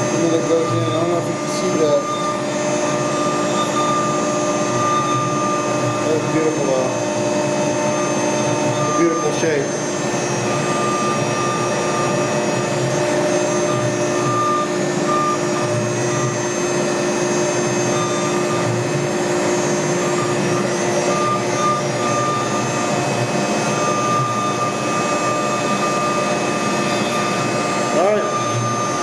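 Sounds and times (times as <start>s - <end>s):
router cutting wood: 0.0s - 29.0s.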